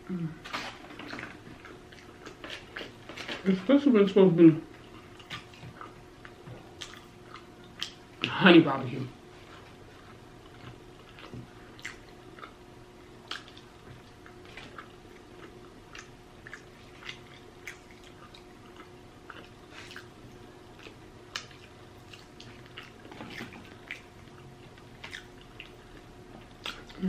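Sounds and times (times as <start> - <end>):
chewing with wet mouth smacking: 0.6 - 3.5, 4.7 - 8.4, 9.4 - 27.0.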